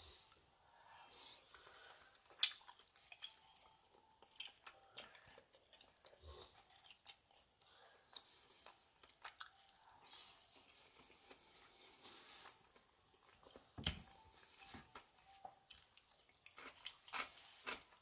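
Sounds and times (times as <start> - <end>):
person chewing: 1.5 - 18.0.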